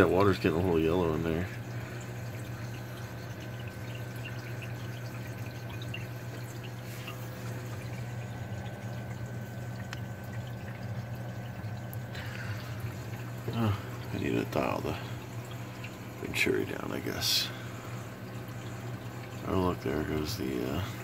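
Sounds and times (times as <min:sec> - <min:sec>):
low pump hum: 0:00.0 - 0:21.0
water splashing and dripping: 0:00.0 - 0:21.0.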